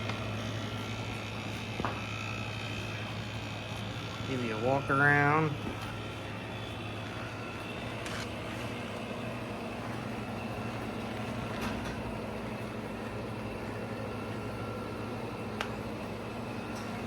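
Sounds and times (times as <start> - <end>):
air conditioner compressor hum: 0.0 - 17.0
air conditioner fan rushing: 0.0 - 17.0.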